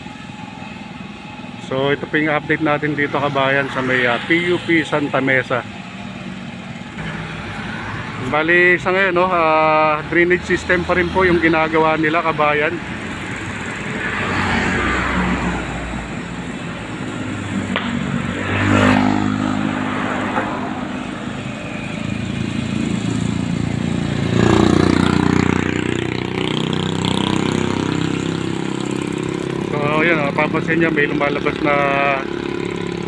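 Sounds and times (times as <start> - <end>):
vehicles passing on street: 0.0 - 33.0.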